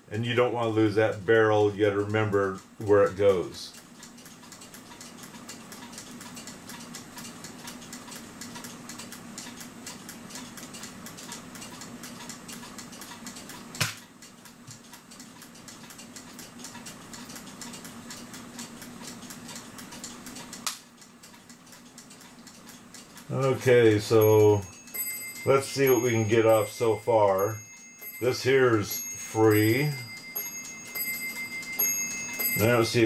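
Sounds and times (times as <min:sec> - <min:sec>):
rapid clock ticking: 0:00.2 - 0:33.0.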